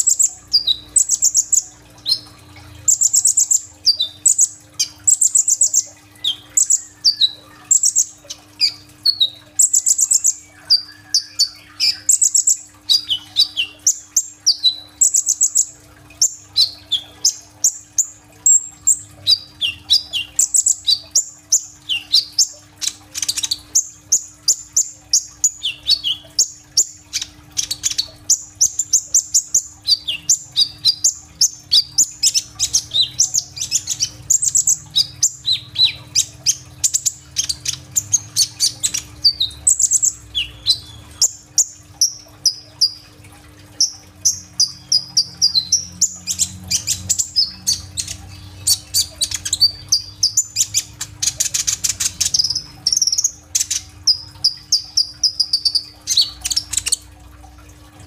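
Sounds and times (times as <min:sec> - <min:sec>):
sunbird singing chirps and trills: 0:00.0 - 0:43.1, 0:43.8 - 0:57.0
faint steady hum: 0:00.0 - 0:58.0.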